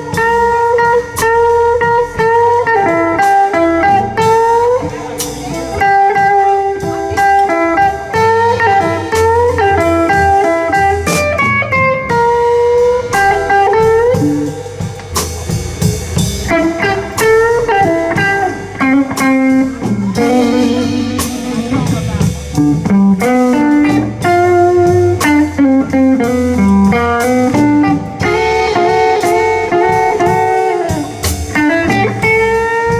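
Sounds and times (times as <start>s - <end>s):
bass guitar: 0.0s - 32.9s
drums: 0.0s - 32.9s
lead electric guitar: 0.0s - 32.9s.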